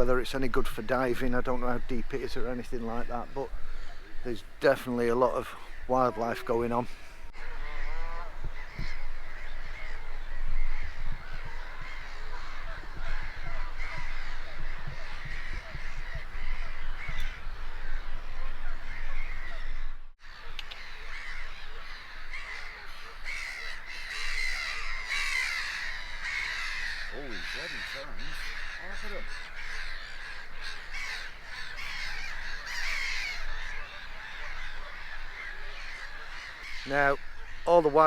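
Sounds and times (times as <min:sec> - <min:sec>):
flock of birds calling: 0:00.0 - 0:38.0.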